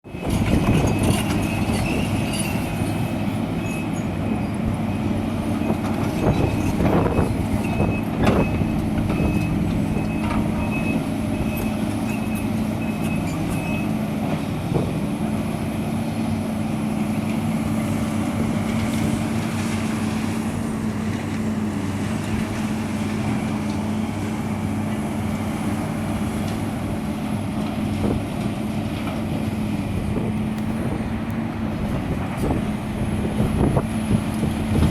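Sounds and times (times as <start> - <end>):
demolition machinery engine: 0.0 - 34.9.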